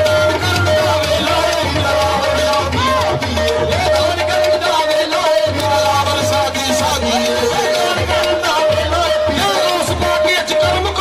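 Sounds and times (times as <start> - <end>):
drums beating fast: 0.0 - 11.0
harmonium: 0.0 - 11.0.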